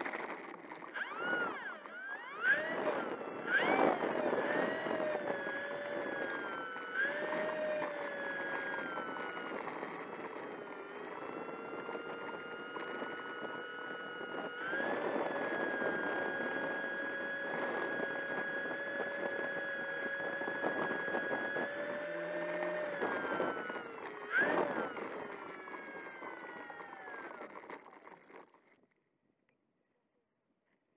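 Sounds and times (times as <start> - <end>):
electric motor and propeller whining: 0.0 - 28.6.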